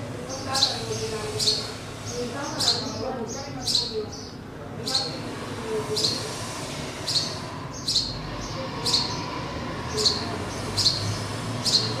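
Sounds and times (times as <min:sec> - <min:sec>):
small bird chirping: 0:00.2 - 0:05.2, 0:05.9 - 0:06.3, 0:07.0 - 0:12.0.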